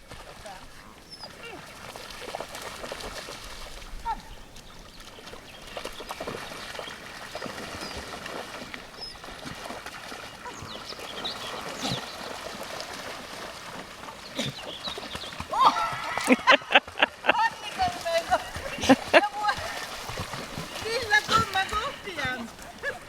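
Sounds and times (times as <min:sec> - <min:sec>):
water splashing and trickling: 0:00.0 - 0:23.0.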